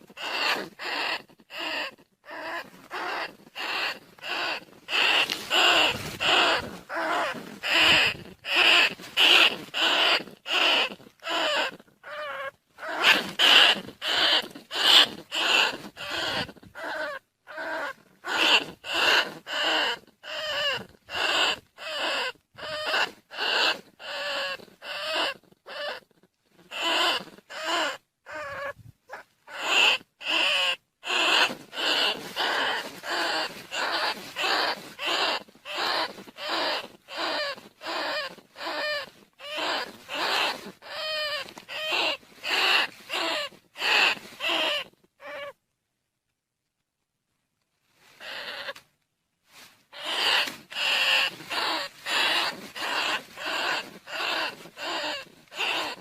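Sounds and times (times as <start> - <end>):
short squeaking calls: 0.1 - 26.0, 26.7 - 45.6, 48.2 - 48.8, 49.9 - 56.0.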